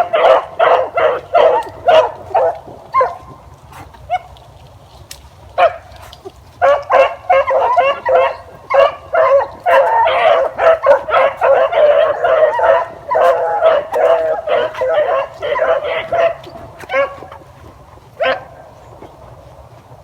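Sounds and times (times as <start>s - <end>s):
hounds baying and barking: 0.0s - 4.6s, 5.5s - 20.0s.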